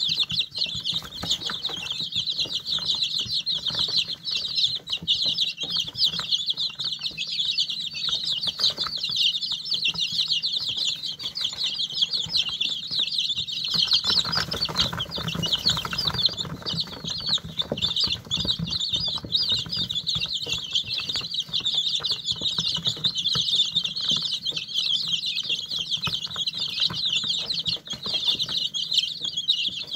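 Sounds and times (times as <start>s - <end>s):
chicks peeping: 0.0s - 29.9s.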